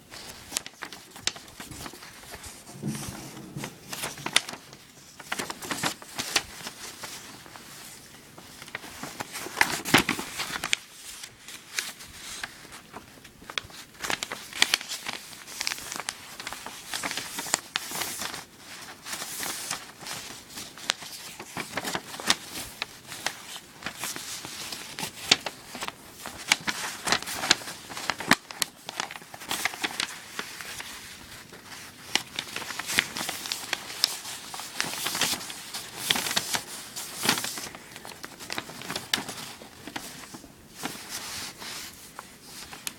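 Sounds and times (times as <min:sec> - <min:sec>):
paper folding and crinkling: 0:00.0 - 0:42.9.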